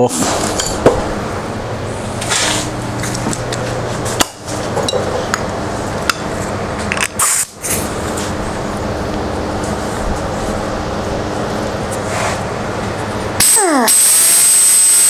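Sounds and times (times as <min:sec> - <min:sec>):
fan and air conditioner noise: 0:00.0 - 0:15.0.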